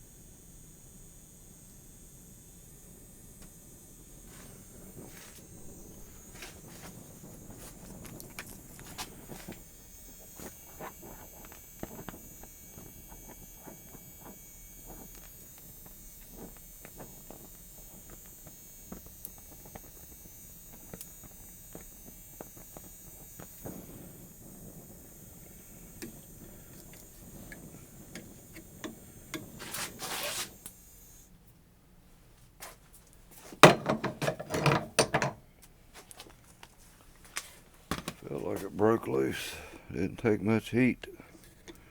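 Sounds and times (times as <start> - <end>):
gas torch flame hissing: 0.0 - 31.3, 37.7 - 41.9.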